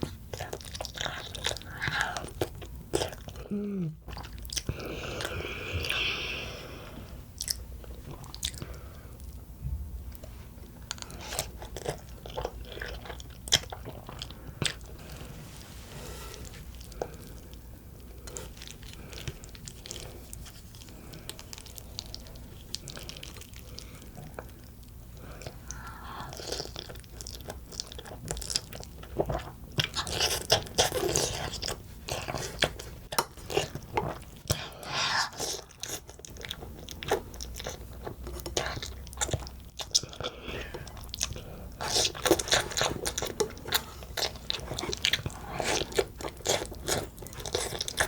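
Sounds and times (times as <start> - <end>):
noodles being chewed: 0.0 - 3.5, 10.2 - 15.6, 16.3 - 48.0.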